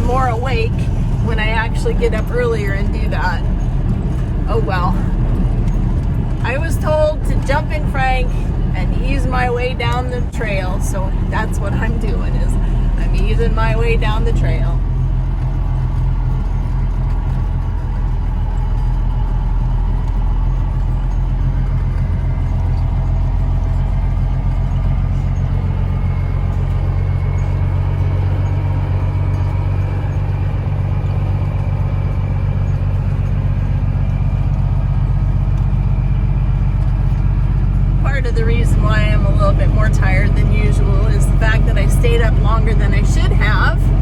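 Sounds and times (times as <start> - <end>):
diesel engine drone: 0.0 - 44.0.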